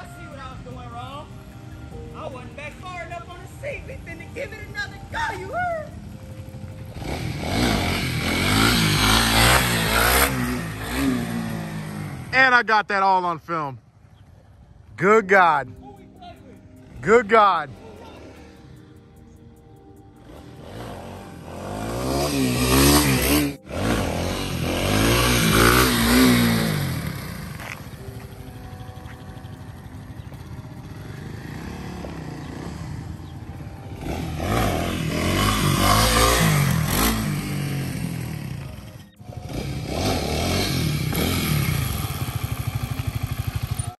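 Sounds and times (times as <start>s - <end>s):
motorcycle engine revving: 0.0s - 12.7s, 16.6s - 19.4s, 20.1s - 44.0s.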